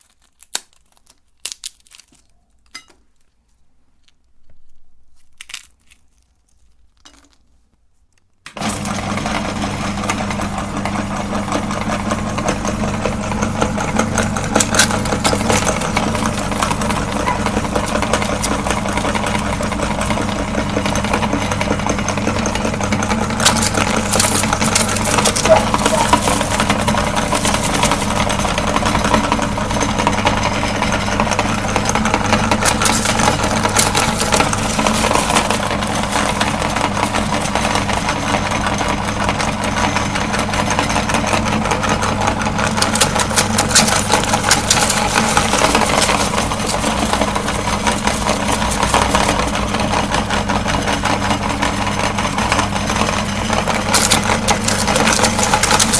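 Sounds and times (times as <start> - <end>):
cracks and crunches in grinder: 0.0 - 55.9
meat grinder motor hum: 8.6 - 55.9.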